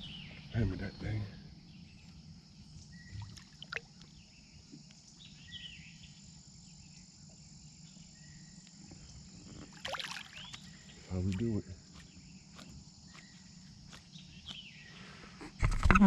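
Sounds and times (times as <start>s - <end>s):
high insect drone: 0.0s - 15.4s
bird chirps: 1.6s - 15.2s.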